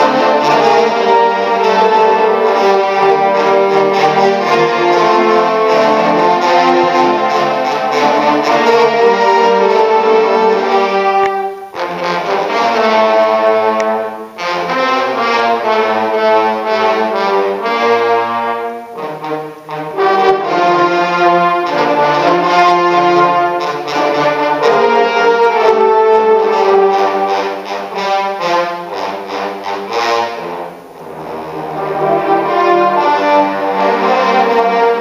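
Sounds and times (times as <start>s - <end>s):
trombone ensemble playing chords: 0.0s - 35.0s.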